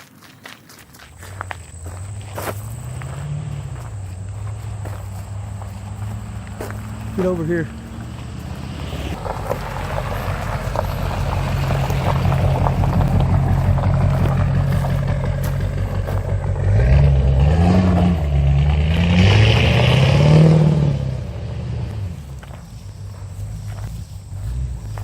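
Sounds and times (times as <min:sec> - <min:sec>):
car driving past accelerating: 0:01.4 - 0:25.0.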